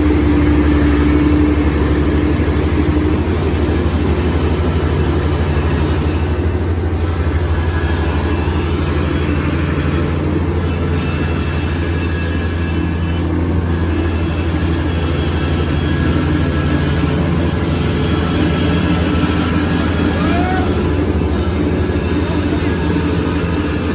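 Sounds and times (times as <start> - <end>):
combine harvester engine humming: 0.0 - 23.9.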